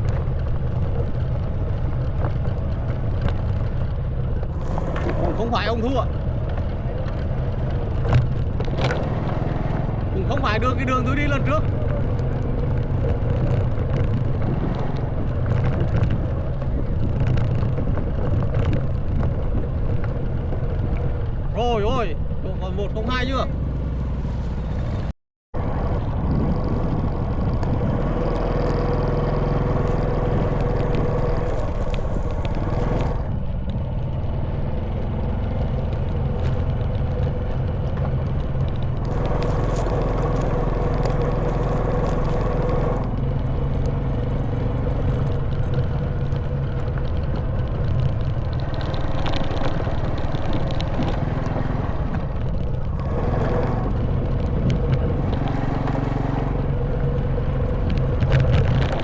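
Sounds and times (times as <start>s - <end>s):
clatter and scrape on stone road: 0.0s - 59.0s
motorbike engine running: 0.0s - 59.0s
wind: 0.0s - 59.0s.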